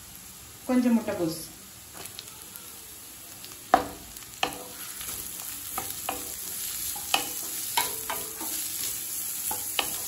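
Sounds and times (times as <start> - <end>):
oil sizzling: 0.0 - 10.0.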